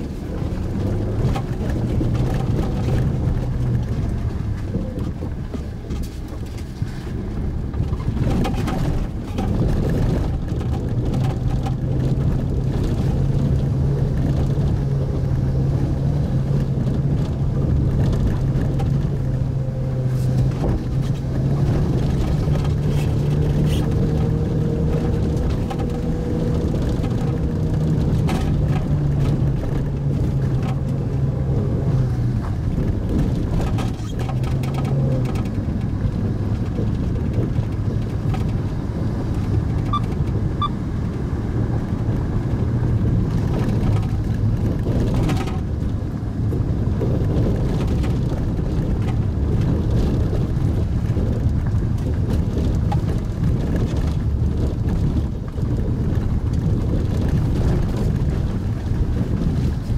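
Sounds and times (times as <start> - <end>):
car engine droning in cabin: 0.0 - 59.9
tyre and road noise: 0.0 - 59.9.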